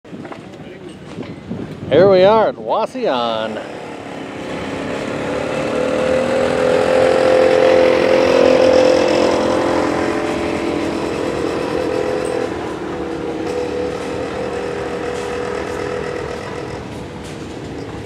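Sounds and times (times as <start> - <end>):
small engine humming: 3.5 - 18.0.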